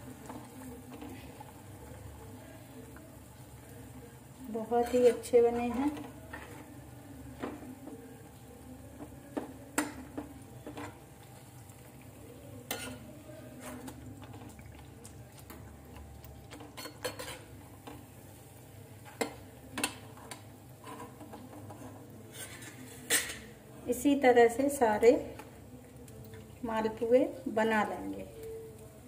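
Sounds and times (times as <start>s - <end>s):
frying in oil sizzle: 0.0s - 29.0s.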